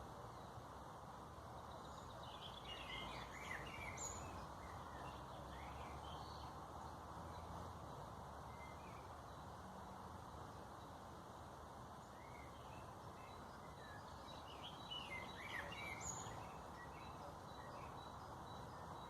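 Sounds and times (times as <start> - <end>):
small birds chirping: 0.0 - 19.0
steady low hiss: 0.0 - 19.0.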